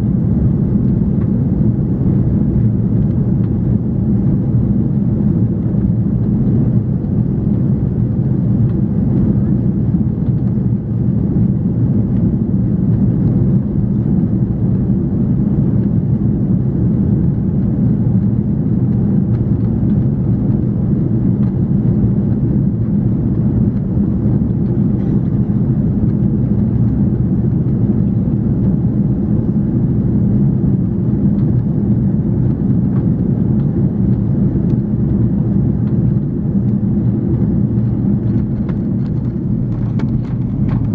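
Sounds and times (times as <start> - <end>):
airliner cabin jet noise: 0.0 - 40.9.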